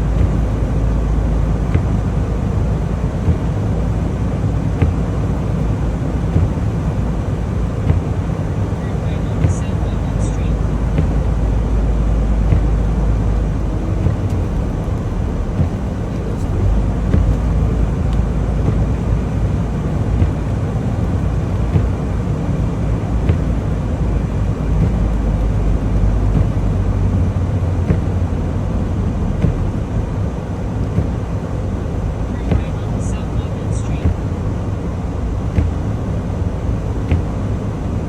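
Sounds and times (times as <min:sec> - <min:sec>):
diesel truck engine rumble: 0:00.0 - 0:38.0
road noise: 0:00.0 - 0:38.0.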